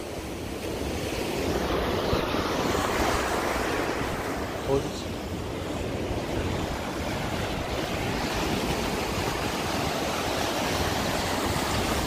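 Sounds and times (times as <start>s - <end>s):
surf washing against rocks: 0.0s - 12.0s
wind buffeting microphone: 0.0s - 12.0s.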